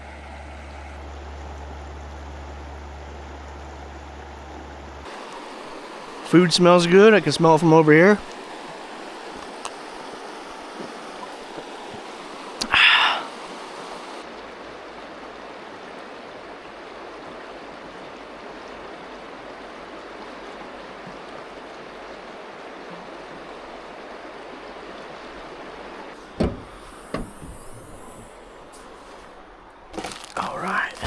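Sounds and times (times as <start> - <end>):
creek running: 0.0 - 31.0.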